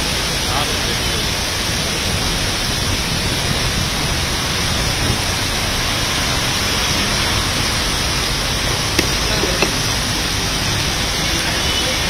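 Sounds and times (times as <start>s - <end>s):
heavy rain on street: 0.0s - 12.0s
vehicles driving through water: 0.0s - 12.0s.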